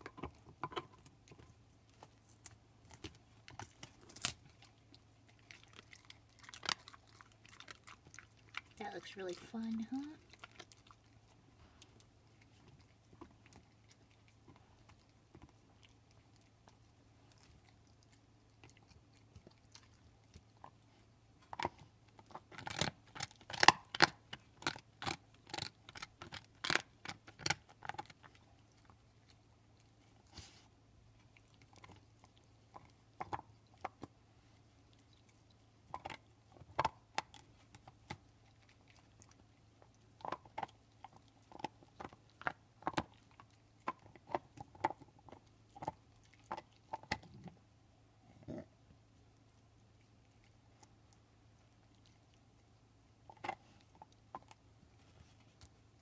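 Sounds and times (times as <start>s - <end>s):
teeth crunching on bone: 0.0s - 9.0s, 10.2s - 30.3s, 31.1s - 47.7s, 49.3s - 56.0s
dog chewing bone: 0.0s - 9.6s, 10.2s - 47.7s, 48.4s - 56.0s.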